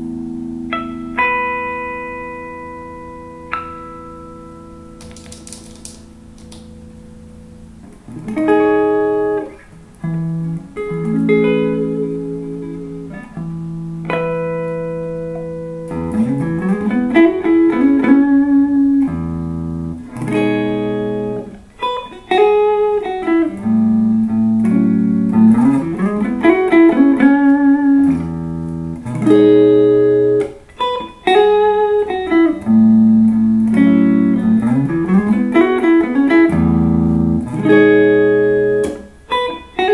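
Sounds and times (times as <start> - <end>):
clean electric guitar: 0.0 - 39.9.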